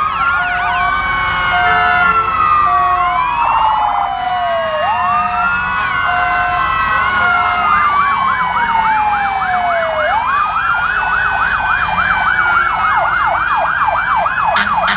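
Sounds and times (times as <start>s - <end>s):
low rumble of truck engines: 0.0s - 14.9s
wailing siren: 0.0s - 14.9s
yelping siren: 0.0s - 14.9s.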